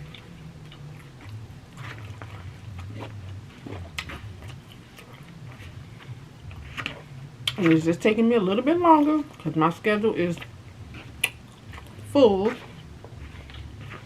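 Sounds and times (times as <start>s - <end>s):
person chewing food: 0.0s - 7.7s, 10.4s - 14.0s.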